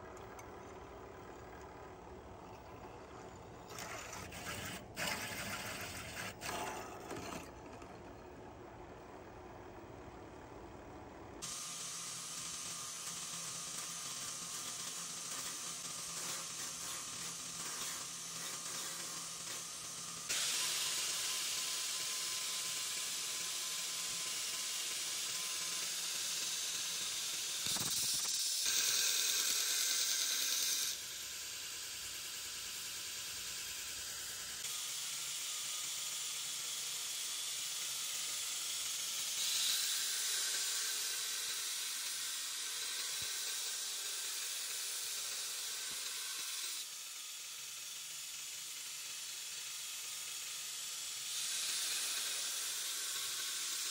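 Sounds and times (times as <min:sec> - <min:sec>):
belt grinder grinding metal: 0:02.4 - 0:08.0, 0:11.4 - 0:53.9.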